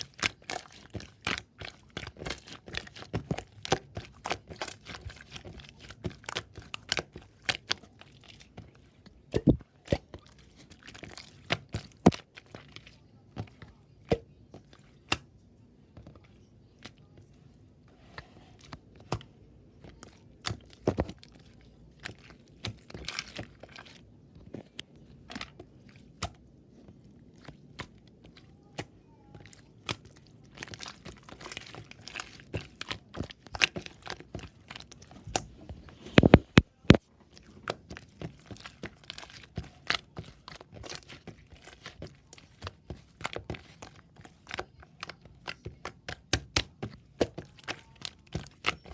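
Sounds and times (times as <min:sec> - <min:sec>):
crunching and crinkling: 0:00.0 - 0:48.9.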